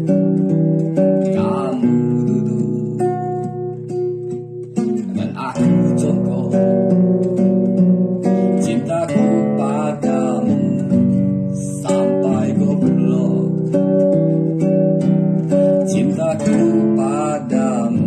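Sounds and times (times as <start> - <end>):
person singing: 0.0 - 4.2, 4.8 - 14.4, 15.4 - 18.0
acoustic guitar strumming: 0.0 - 18.0.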